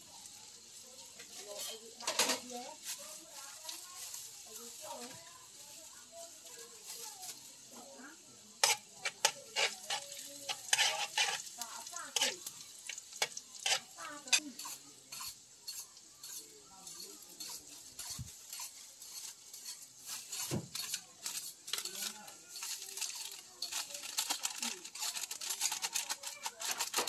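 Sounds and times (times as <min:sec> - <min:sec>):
food sizzling in hot oil: 0:00.0 - 0:27.0
metal utensil scraping a wok: 0:00.0 - 0:27.0.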